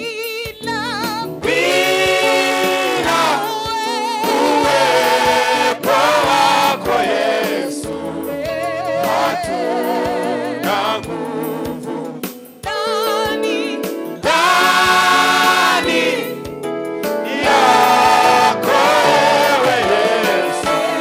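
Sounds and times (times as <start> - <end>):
gospel choir singing: 1.4 - 21.0.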